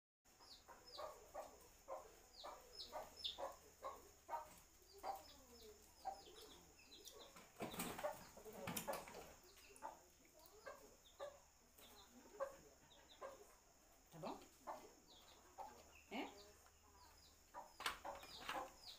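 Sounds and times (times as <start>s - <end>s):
chickens clucking: 0.3s - 18.9s.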